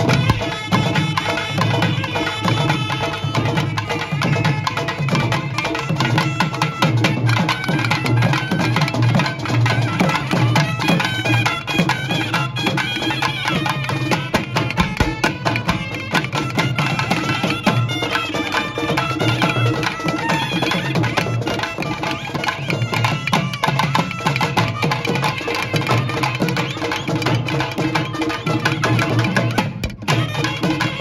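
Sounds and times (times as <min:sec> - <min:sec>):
drums beating steady rhythm: 0:00.0 - 0:31.0.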